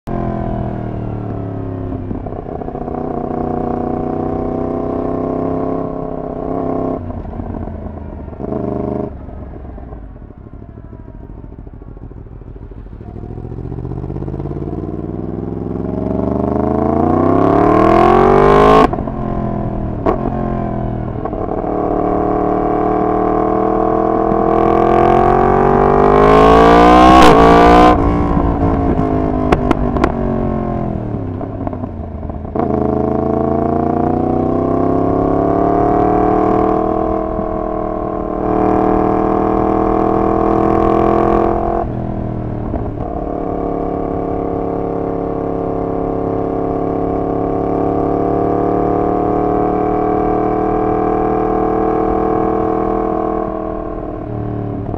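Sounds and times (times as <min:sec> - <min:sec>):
motorcycle engine revving: 0:00.1 - 0:54.9.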